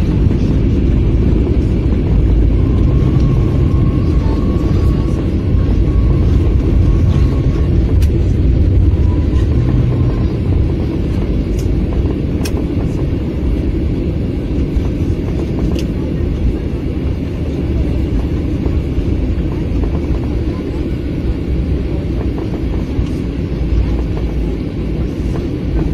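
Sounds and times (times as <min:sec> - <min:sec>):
airliner cabin rumble: 0:00.0 - 0:25.9.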